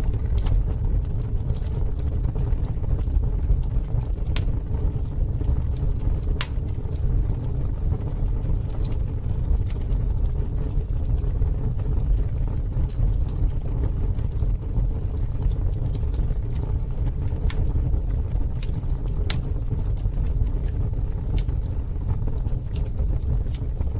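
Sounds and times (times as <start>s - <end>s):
campfire rumbling: 0.0s - 23.9s
wood popping and crackling: 0.0s - 23.9s.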